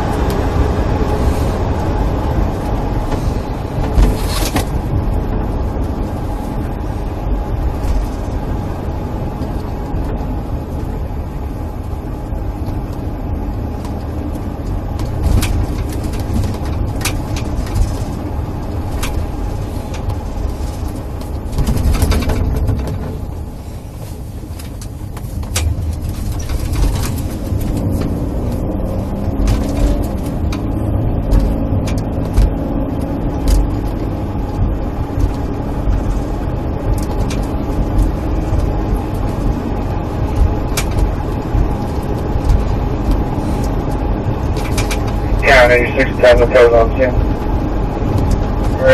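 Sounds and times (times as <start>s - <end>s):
car road and engine rumble: 0.0s - 48.9s.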